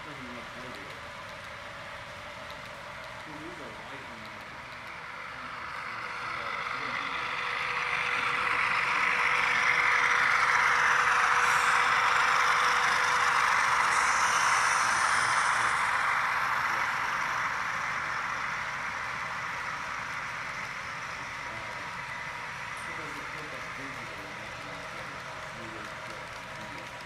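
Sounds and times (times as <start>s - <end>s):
model locomotives running past: 0.0s - 27.0s.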